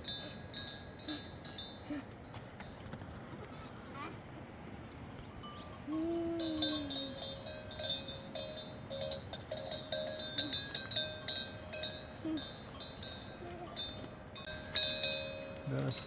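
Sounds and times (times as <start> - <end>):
livestock bells clanking: 0.0 - 16.0.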